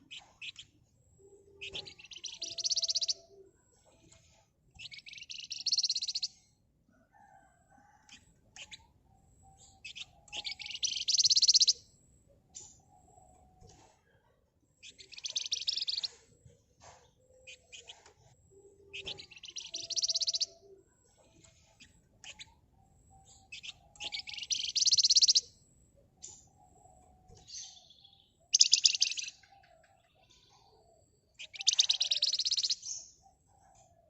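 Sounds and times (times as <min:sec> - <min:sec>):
high bird chirps: 0:00.0 - 0:06.5, 0:07.9 - 0:13.8, 0:14.8 - 0:16.3, 0:17.2 - 0:33.7.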